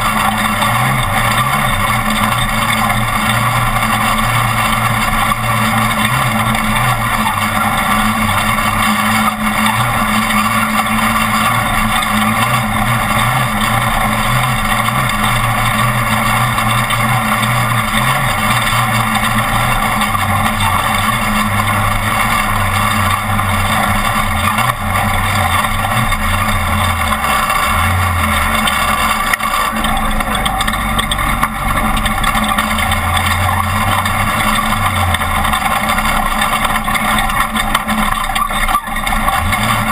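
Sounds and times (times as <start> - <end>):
race truck engine revving: 0.0 - 39.9
road and wind noise: 0.0 - 39.9.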